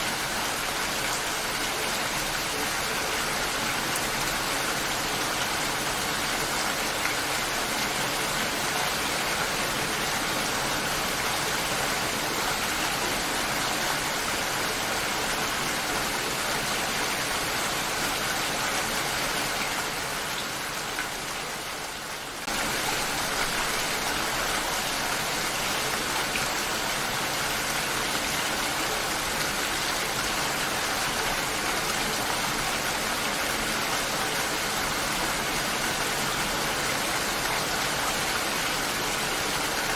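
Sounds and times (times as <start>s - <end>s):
steady dense rain: 0.0s - 39.9s.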